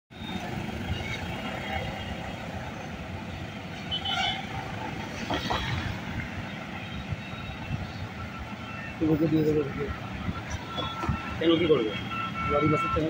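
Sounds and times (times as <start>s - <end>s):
motorbikes and cars passing: 0.1s - 13.0s.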